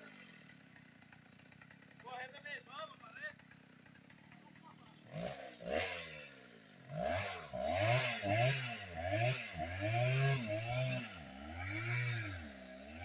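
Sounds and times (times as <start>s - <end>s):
chainsaw engine revving: 0.0s - 2.1s, 3.3s - 13.0s.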